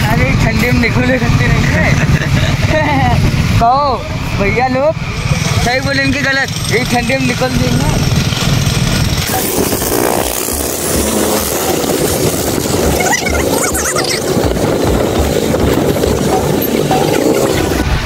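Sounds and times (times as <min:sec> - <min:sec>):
motorcycle running: 0:00.0 - 0:18.0
passing street traffic: 0:00.0 - 0:18.0
wind buffeting microphone: 0:00.0 - 0:18.0.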